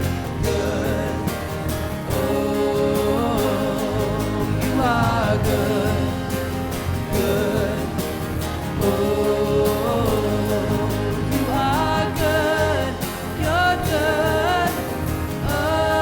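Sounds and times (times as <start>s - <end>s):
bass: 0.0s - 16.0s
drums: 0.0s - 16.0s
people singing: 0.0s - 16.0s.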